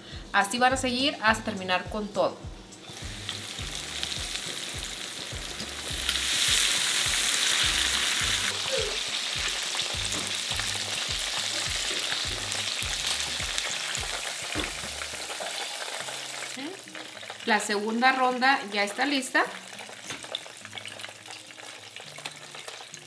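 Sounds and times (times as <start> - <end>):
chicken deep-frying in oil: 3.0 - 23.0.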